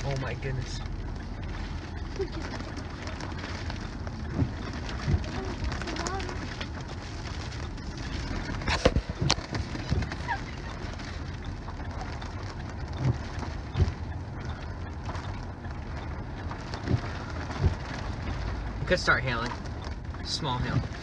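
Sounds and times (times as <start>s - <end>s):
wind and rain against a car: 0.0s - 21.0s.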